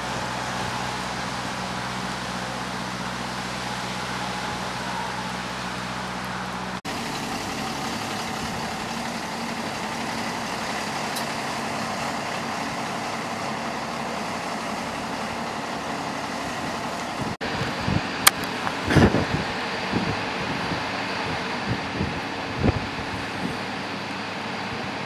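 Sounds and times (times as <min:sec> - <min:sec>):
bus engine running: 0:00.0 - 0:25.0.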